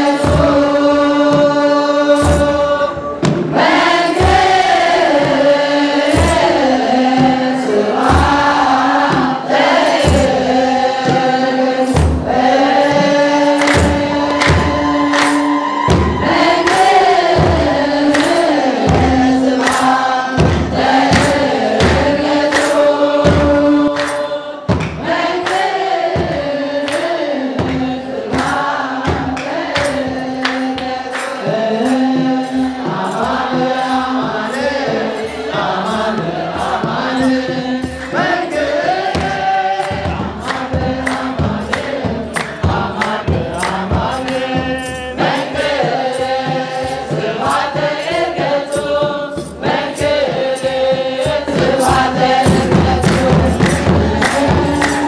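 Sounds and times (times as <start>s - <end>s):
choir singing a hymn: 0.0s - 55.0s
hand drums beating: 0.0s - 55.0s.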